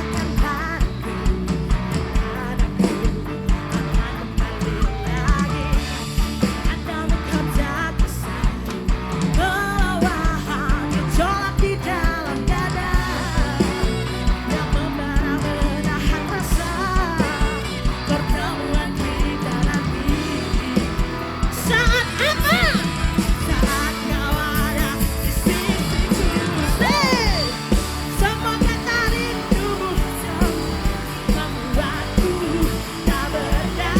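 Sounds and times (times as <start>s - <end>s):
lead singer singing: 0.0s - 33.9s
live rock band playing: 0.0s - 33.9s
steady drum beat: 0.0s - 33.9s.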